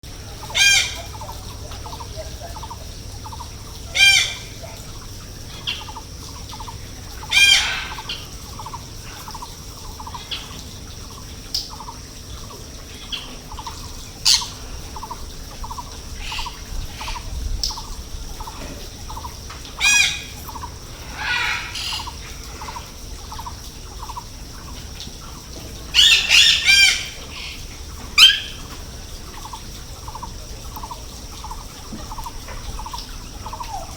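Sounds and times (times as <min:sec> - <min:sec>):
birds squawking: 0:00.1 - 0:33.9.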